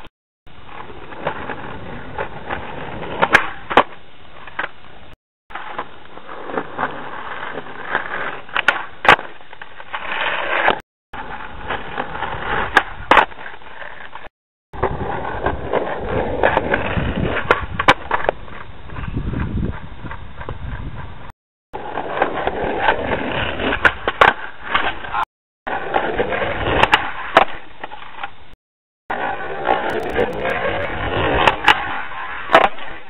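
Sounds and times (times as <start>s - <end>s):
skateboard wheels rolling on concrete: 0.0s - 33.0s.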